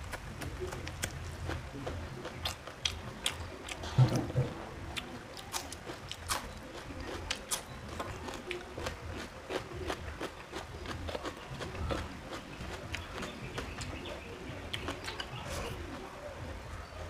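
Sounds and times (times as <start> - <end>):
chewing and biting: 0.0 - 16.0
mouth clicks and crunches: 0.0 - 16.1.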